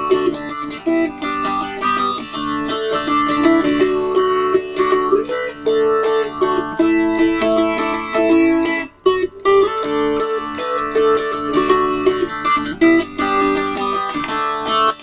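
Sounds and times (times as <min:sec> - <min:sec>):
mountain dulcimer strummed: 0:00.0 - 0:15.0.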